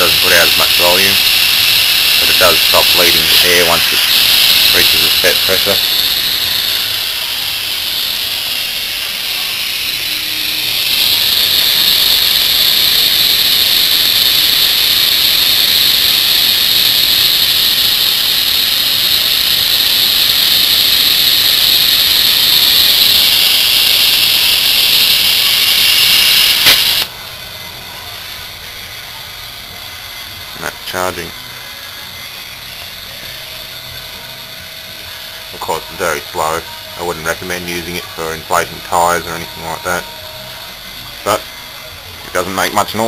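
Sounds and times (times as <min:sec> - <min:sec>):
compressor running: 0:00.0 - 0:43.0
valve hissing air: 0:00.0 - 0:43.0.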